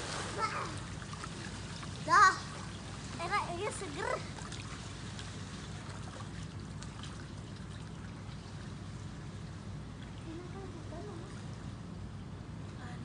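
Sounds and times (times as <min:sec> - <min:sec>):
pool water splashing: 0:00.0 - 0:12.5
low background hum: 0:00.0 - 0:13.0.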